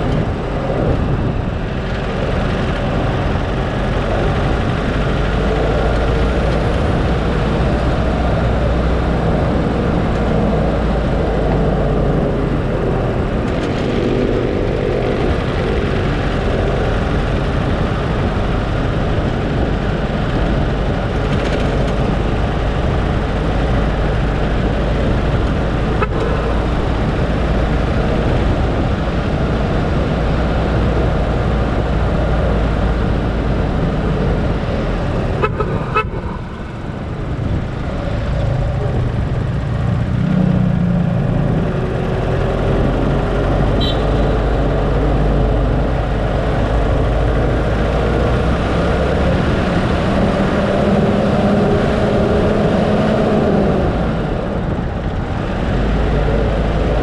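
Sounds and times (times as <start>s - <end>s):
car engine: 0.0s - 57.0s
road rumble: 0.0s - 57.0s.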